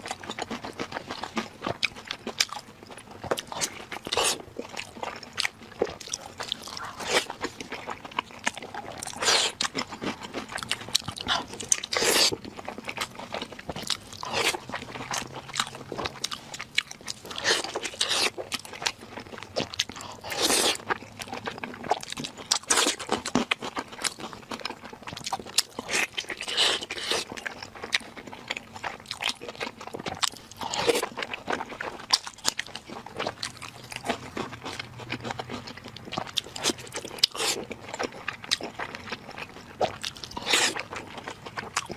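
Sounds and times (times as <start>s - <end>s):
person crunching and chewing food: 0.0s - 41.9s.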